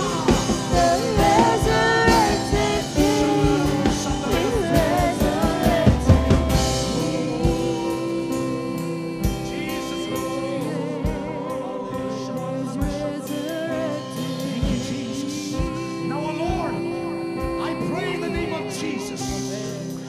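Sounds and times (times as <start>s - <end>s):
band and singers performing worship song: 0.0s - 20.0s.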